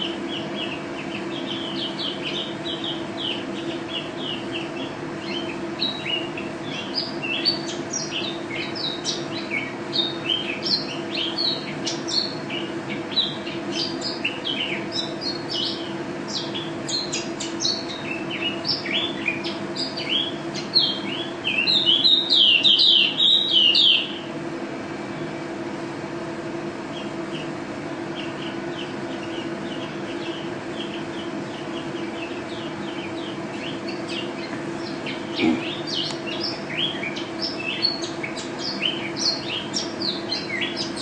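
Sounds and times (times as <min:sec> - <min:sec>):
bird chirps and trills: 0:00.0 - 0:24.4, 0:26.2 - 0:41.0
steady low hum: 0:00.0 - 0:41.0.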